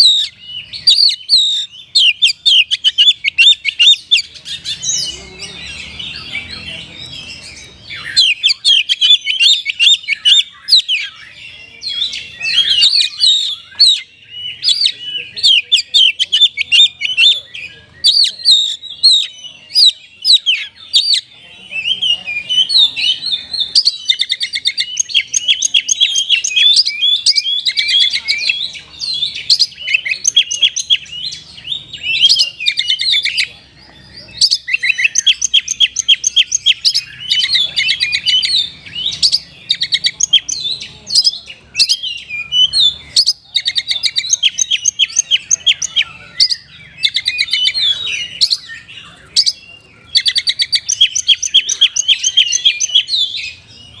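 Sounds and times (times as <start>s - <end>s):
bird singing trilled phrases: 0.0s - 54.0s.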